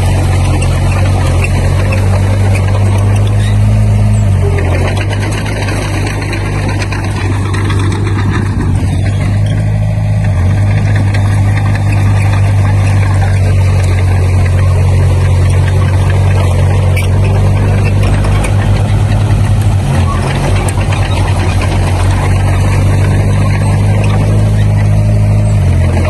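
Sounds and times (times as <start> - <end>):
diesel engine droning: 0.0 - 26.0
mechanical clatter: 0.0 - 26.0.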